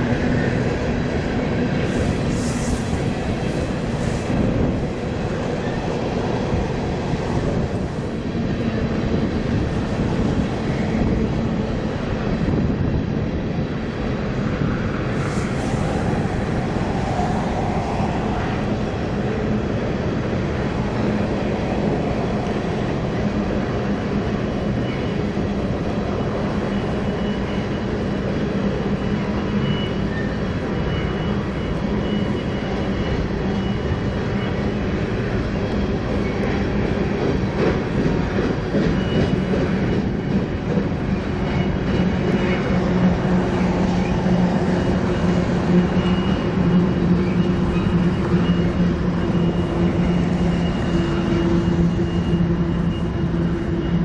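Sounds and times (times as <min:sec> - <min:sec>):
locomotive engine hum: 0:00.0 - 0:54.0
rail and wheel noise: 0:00.0 - 0:54.0.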